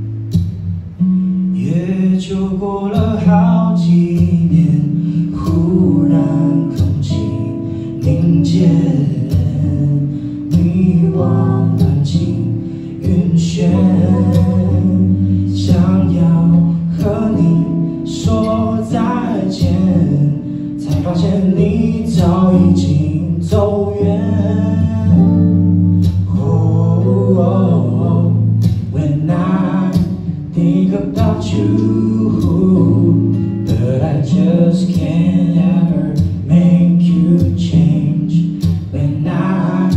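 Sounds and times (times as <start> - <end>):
acoustic guitar: 0.0 - 39.9
man singing: 1.5 - 39.9.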